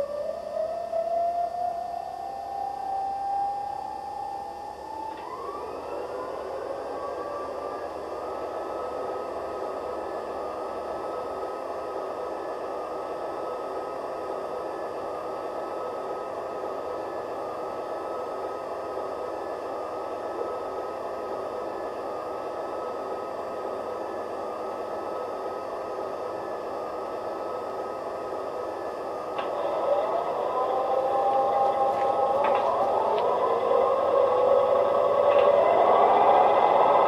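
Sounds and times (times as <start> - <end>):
whirring hiss with high whine: 0.0 - 37.0.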